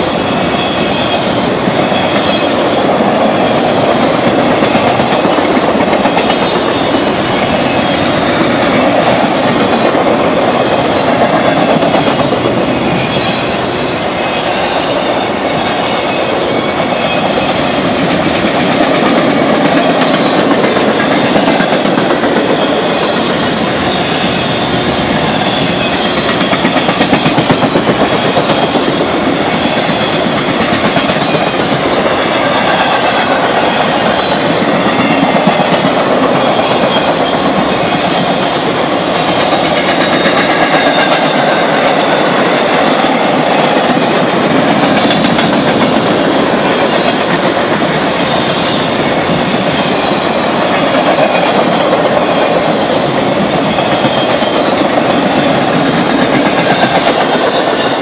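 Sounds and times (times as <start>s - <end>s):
clickety-clack over rail joints: 0.0s - 58.0s
steel wheels on rails: 0.0s - 58.0s.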